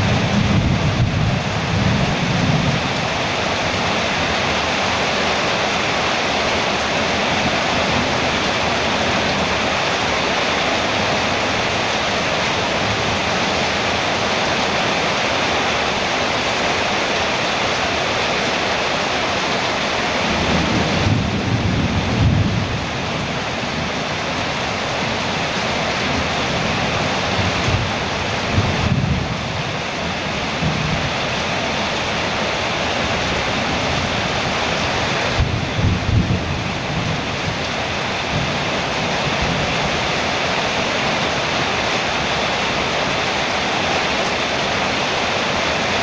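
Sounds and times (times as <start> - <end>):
heavy rain on a metal roof: 0.0 - 46.0.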